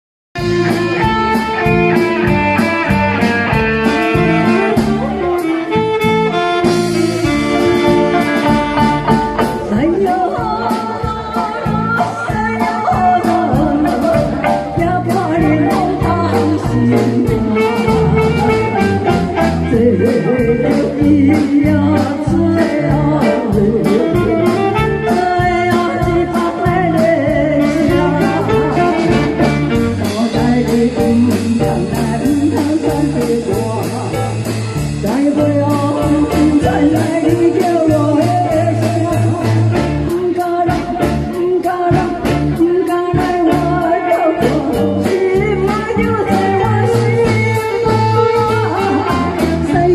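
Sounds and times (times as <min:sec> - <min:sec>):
live band with guitar: 0:00.4 - 0:49.9
woman singing into microphone: 0:00.4 - 0:49.9.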